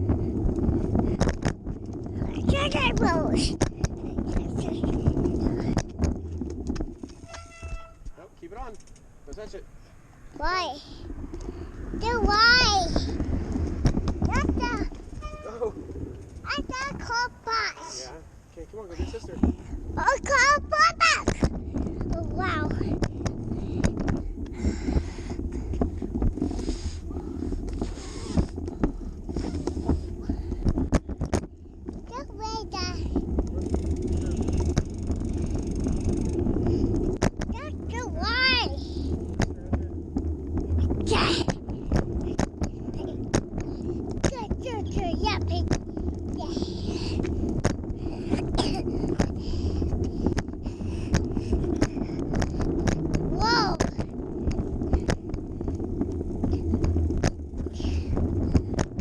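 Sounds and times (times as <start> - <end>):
bicycle knocks and rattles: 0.0 - 17.8, 18.5 - 59.0
wind rumbling on microphone: 0.0 - 59.0.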